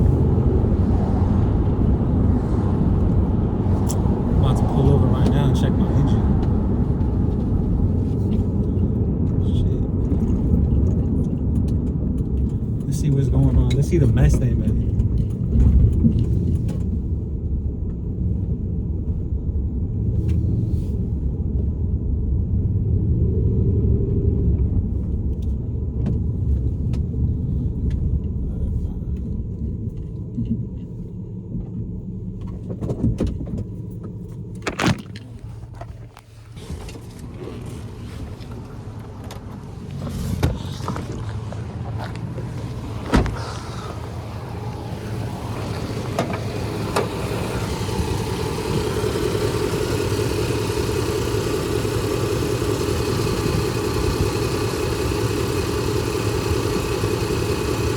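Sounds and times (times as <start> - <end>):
pickup truck low rumble: 0.0 - 57.9.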